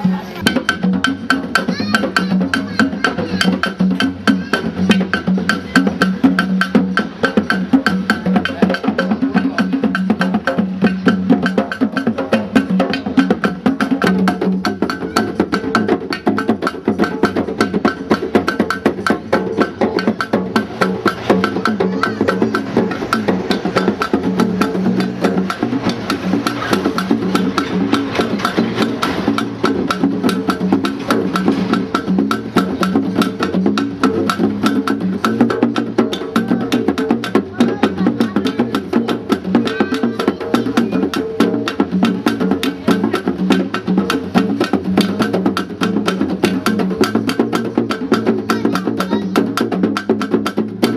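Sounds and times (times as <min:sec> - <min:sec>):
wood block and drum strikes: 0:00.0 - 0:50.9.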